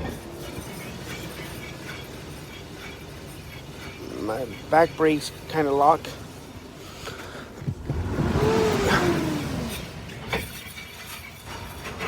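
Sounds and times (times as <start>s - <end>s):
brakes skidding with a groan: 0.0s - 12.0s.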